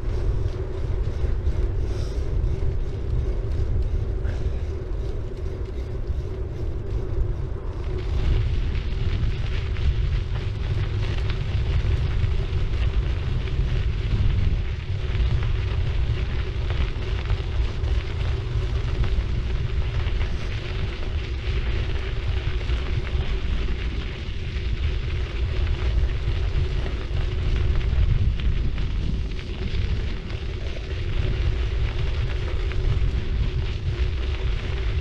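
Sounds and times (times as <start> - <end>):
bike tyres rolling on road: 0.0 - 35.0
wind buffeting microphone: 0.0 - 35.0.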